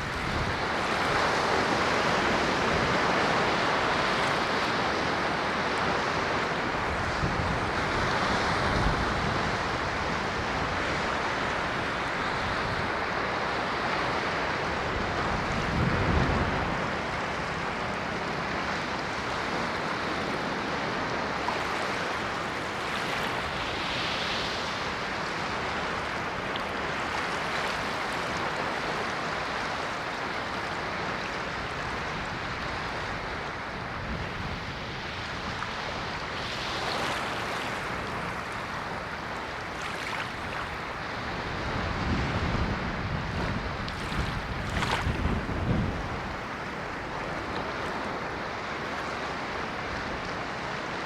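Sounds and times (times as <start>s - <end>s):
ocean waves washing on shore: 0.0s - 51.0s.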